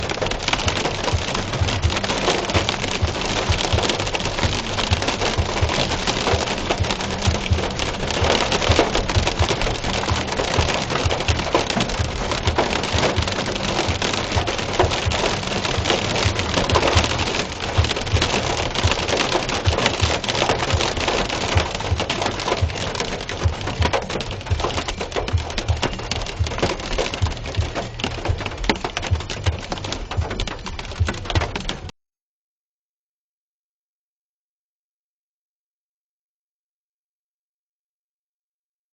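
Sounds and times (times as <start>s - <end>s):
rain and hail on car roof: 0.0s - 31.9s.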